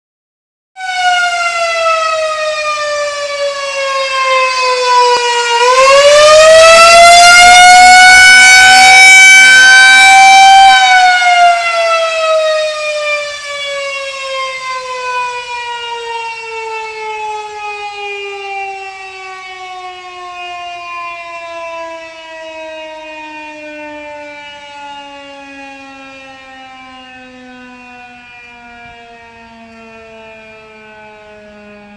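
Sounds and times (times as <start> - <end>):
warning siren wailing: 0.8 - 31.9.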